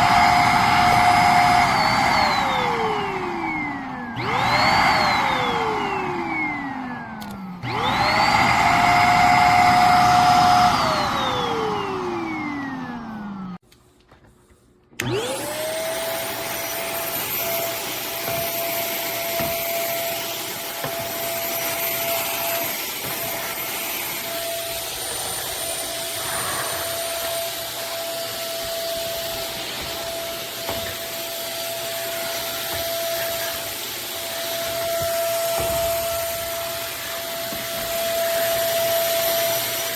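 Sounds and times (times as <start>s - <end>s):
vacuum motor whining: 0.0s - 13.6s, 15.0s - 39.9s.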